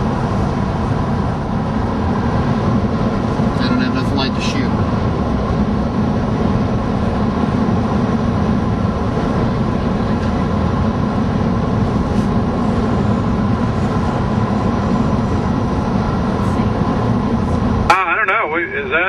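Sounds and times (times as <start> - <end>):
van road and engine rumble: 0.0 - 19.0.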